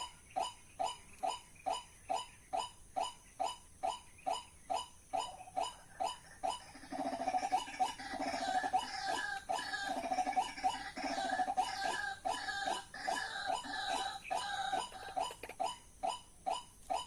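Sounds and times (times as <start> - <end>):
rapid churring bird notes: 0.0 - 17.0.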